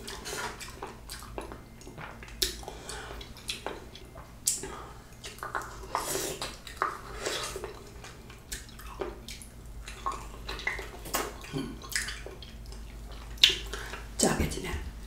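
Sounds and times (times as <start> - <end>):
wet bites and chewing: 0.0 - 14.0.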